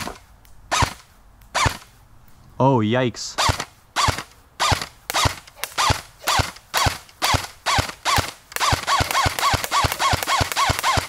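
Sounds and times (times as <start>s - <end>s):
airsoft rifle shots: 0.0s - 1.9s, 3.4s - 11.0s.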